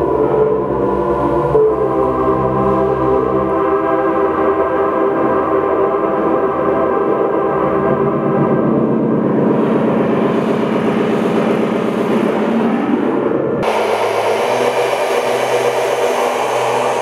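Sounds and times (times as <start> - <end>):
low throbbing hum: 0.0 - 17.0
pulsing electronic drone: 0.0 - 17.0.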